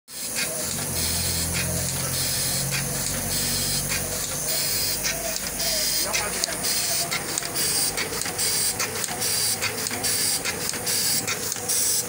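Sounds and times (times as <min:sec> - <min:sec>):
printing press mechanical hum: 0:00.1 - 0:12.0
sheet feeder air hiss: 0:00.1 - 0:12.0.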